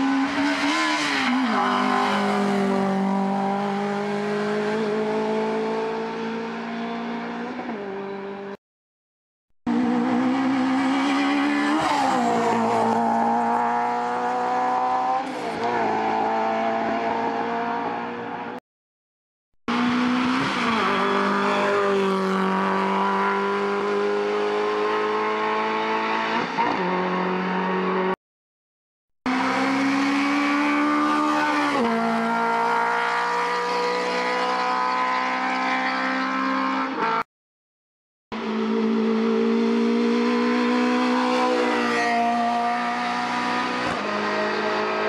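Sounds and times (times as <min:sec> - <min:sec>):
race car engines revving: 0:00.0 - 0:08.6, 0:09.7 - 0:18.6, 0:19.7 - 0:28.2, 0:29.3 - 0:37.2, 0:38.4 - 0:45.0.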